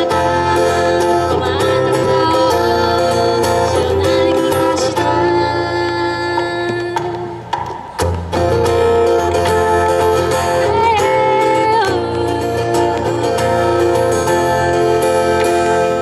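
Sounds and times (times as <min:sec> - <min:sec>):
woman singing into a microphone: 0:00.0 - 0:07.4, 0:09.2 - 0:14.6
acoustic guitar: 0:00.0 - 0:16.0.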